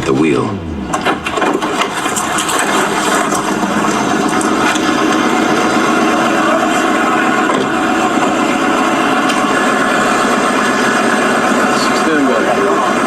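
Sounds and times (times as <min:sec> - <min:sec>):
road noise: 0:00.0 - 0:13.0
vehicle engine running: 0:00.0 - 0:13.0.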